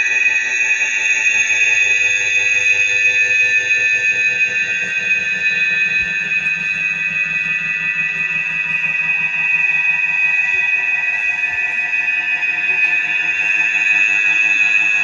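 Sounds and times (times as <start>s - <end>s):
low pulsing hum: 1.2s - 15.0s.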